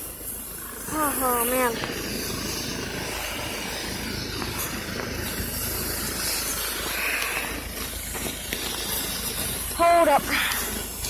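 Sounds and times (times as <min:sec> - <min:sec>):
helicopter turbine engines hissing: 0:00.0 - 0:11.0.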